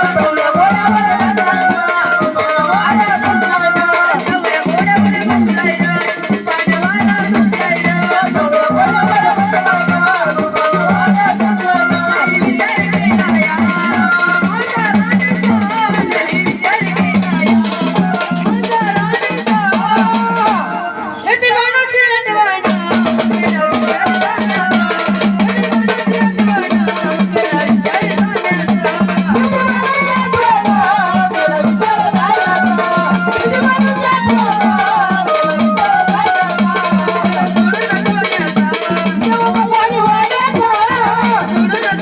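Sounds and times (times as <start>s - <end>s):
rattling percussion: 0.0s - 21.1s, 22.6s - 42.0s
drums playing fast rhythm: 0.0s - 21.7s, 22.5s - 42.0s.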